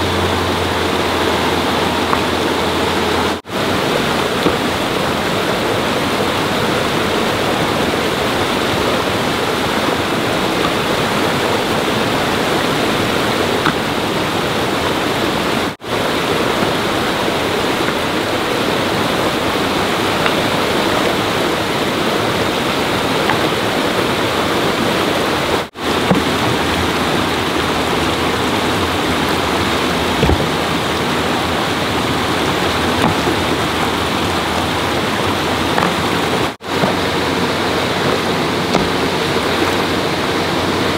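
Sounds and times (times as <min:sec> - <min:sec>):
rush of flowing water: 0:00.0 - 0:40.9.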